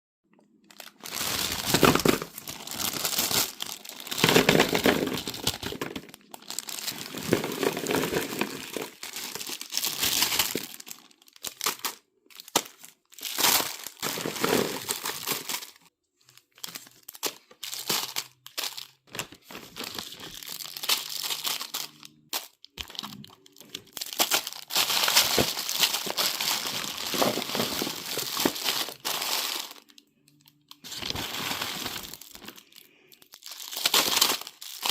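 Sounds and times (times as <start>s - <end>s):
plastic wrappers crinkling and tearing: 0.3s - 34.9s.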